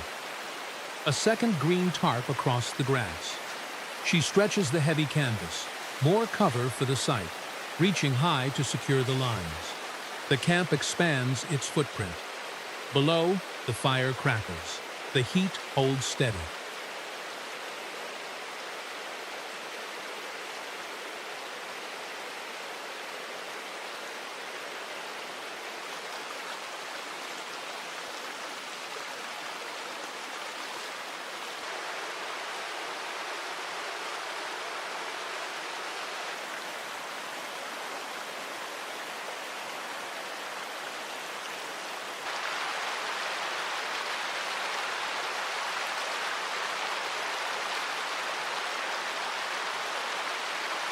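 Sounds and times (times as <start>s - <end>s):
river flowing over rocks: 0.0s - 50.9s.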